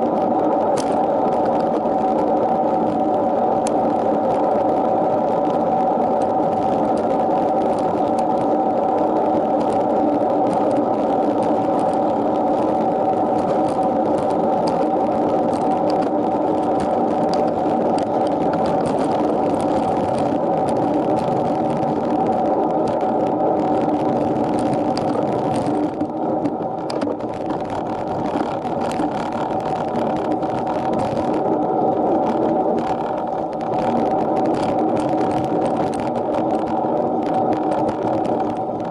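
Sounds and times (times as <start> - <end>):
bicycle whirring ride noise: 0.0 - 38.9.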